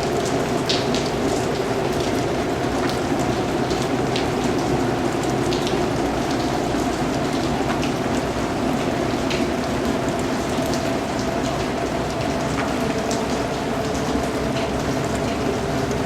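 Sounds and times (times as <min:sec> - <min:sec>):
raindrops tapping: 0:00.0 - 0:16.0
steady rain hiss: 0:00.0 - 0:16.0.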